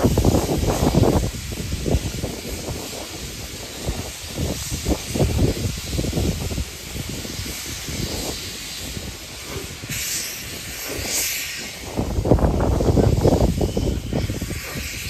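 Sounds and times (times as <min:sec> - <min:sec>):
steam hissing: 0:00.0 - 0:15.0
steam locomotive rumble: 0:00.0 - 0:15.0.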